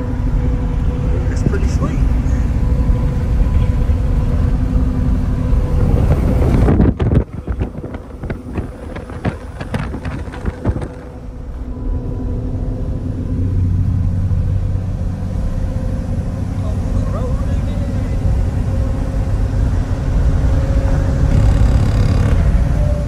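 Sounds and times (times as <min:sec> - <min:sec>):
truck engine and road rumble: 0:00.0 - 0:23.0
wind: 0:00.0 - 0:23.0.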